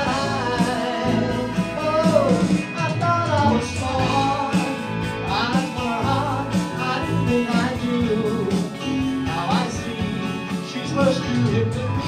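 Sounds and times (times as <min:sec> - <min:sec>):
electric guitar: 0:00.0 - 0:12.0
electronic drums: 0:00.0 - 0:12.0
man singing: 0:00.0 - 0:12.0.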